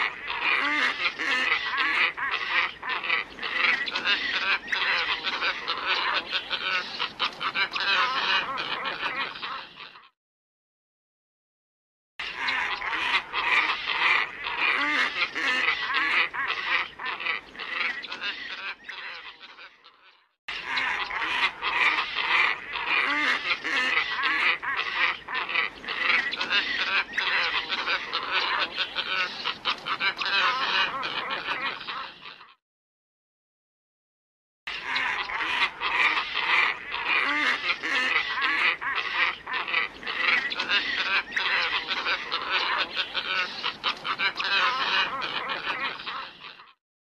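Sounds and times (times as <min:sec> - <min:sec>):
flock of ibises calling: 0:00.0 - 0:10.1, 0:12.2 - 0:32.6, 0:34.7 - 0:46.8.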